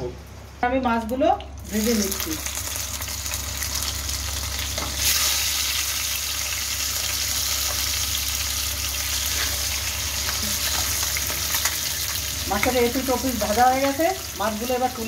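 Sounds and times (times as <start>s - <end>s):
fish sizzling in hot oil: 1.6s - 15.0s.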